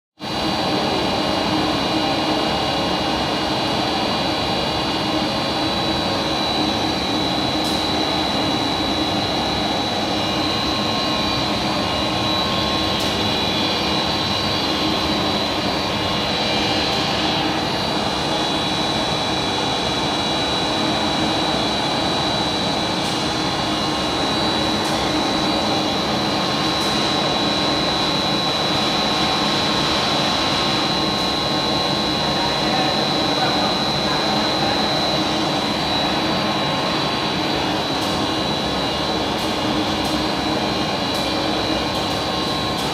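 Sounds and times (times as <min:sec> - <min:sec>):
high-pitched whine: 0:00.2 - 0:42.9
machinery whirring: 0:00.6 - 0:42.9.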